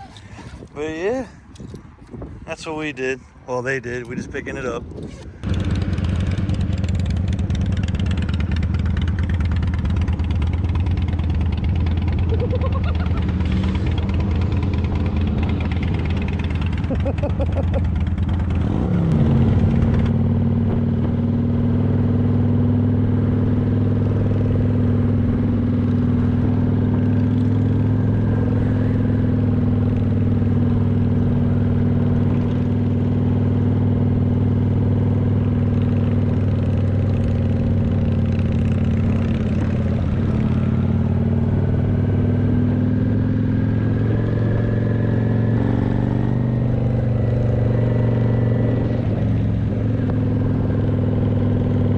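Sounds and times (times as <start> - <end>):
motorcycle engine revving: 4.0 - 51.9.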